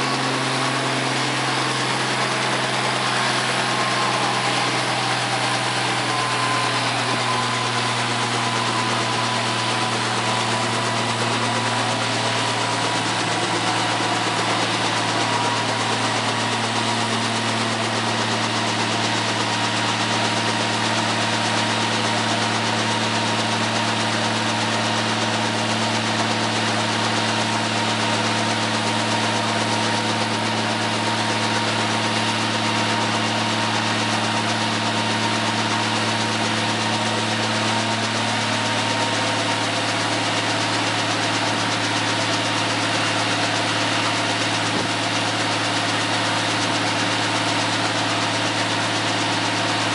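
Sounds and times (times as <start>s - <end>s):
helicopter engine idling: 0.0s - 49.9s
steady whine: 0.0s - 49.9s.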